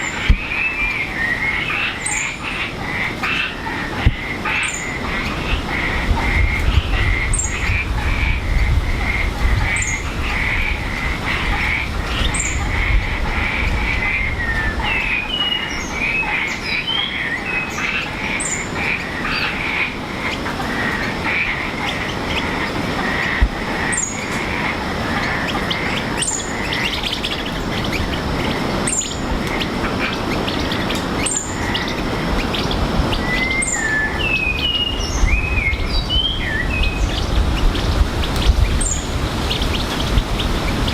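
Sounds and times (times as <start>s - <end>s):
birds singing whistled phrases: 0.0s - 10.8s, 11.5s - 12.9s, 13.9s - 20.4s, 23.9s - 24.4s, 25.2s - 40.9s
frog chorus: 0.0s - 40.9s.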